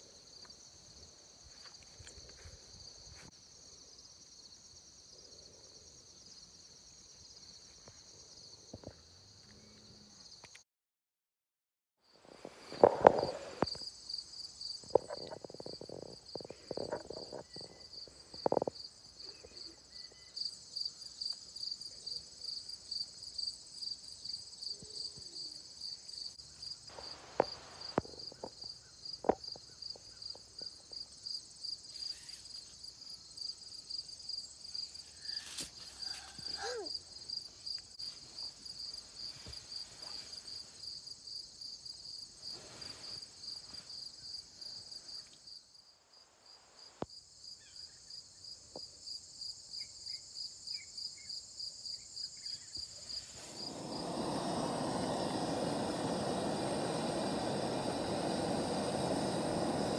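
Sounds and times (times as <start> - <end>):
cricket chirping: 0.0 - 10.6, 12.0 - 59.9.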